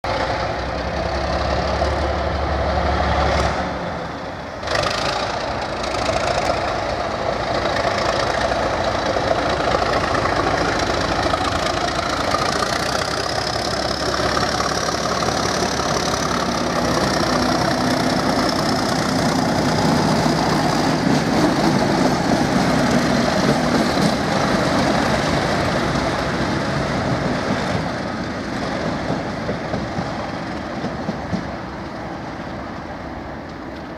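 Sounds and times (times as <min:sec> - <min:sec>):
diesel locomotive engines: 0:00.0 - 0:33.9.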